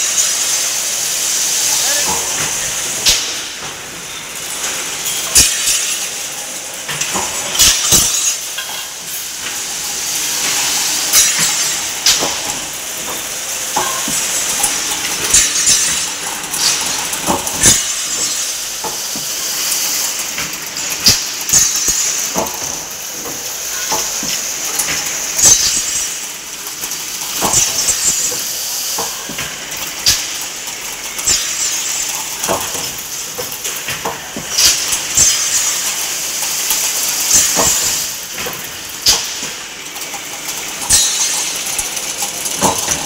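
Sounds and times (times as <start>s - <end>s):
machine clanks and knocks: 1.7s - 43.0s.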